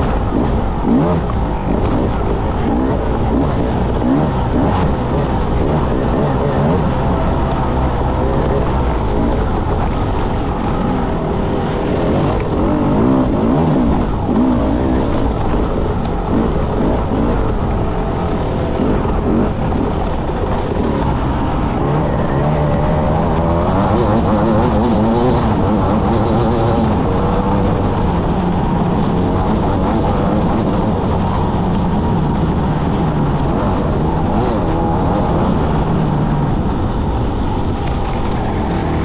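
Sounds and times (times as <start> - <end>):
motorcycle engine revving: 0.0 - 39.0
steady rushing noise: 0.0 - 39.0.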